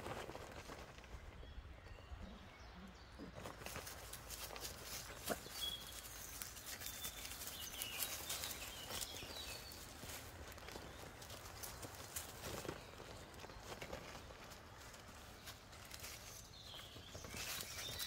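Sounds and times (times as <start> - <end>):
paws rustling on dry leaves: 3.3 - 18.0.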